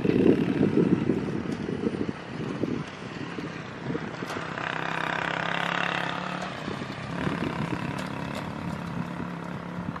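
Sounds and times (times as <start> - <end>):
diesel locomotive drone: 0.0 - 10.0.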